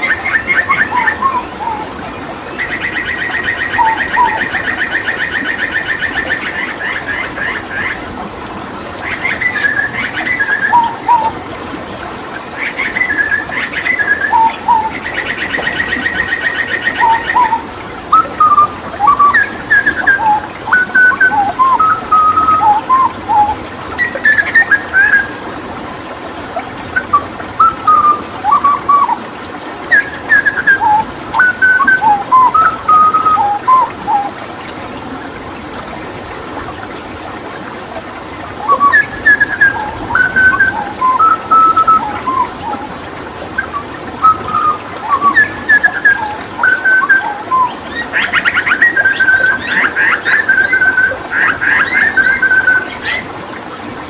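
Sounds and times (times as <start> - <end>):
bird whistling song: 0.0 - 1.9, 2.6 - 8.0, 9.0 - 11.4, 12.6 - 25.4, 27.0 - 29.2, 29.9 - 34.4, 38.6 - 42.9, 43.6 - 53.3
running water: 0.0 - 54.0.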